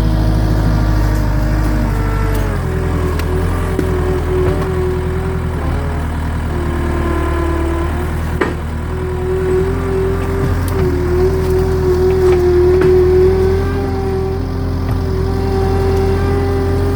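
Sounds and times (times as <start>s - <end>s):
machine engine running with whine: 0.0s - 16.9s.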